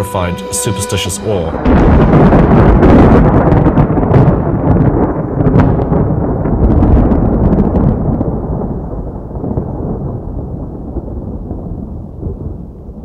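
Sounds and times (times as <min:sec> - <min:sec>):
thunder cracks: 0:00.0 - 0:13.0
deep thunder rumble: 0:00.8 - 0:13.0.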